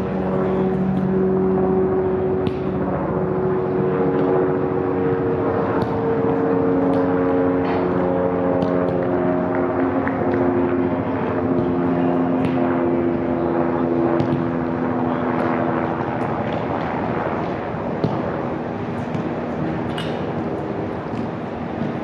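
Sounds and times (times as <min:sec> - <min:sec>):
city background noise: 0:00.0 - 0:22.0
engine drone: 0:00.0 - 0:22.0.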